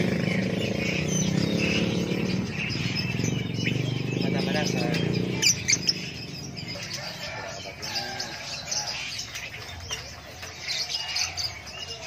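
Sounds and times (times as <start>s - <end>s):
lovebirds chirping: 0.0s - 12.0s.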